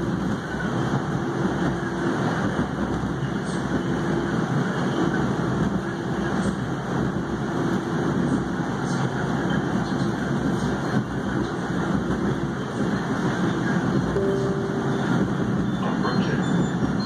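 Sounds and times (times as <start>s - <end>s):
subway wheels rumbling: 0.0s - 17.0s.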